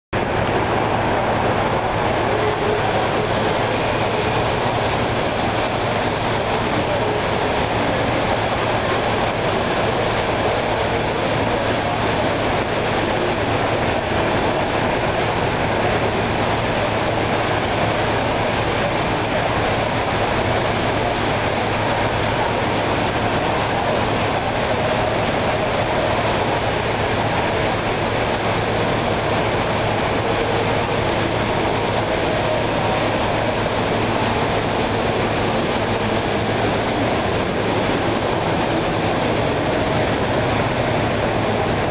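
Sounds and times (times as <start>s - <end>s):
model trains rumbling: 0.2s - 41.9s.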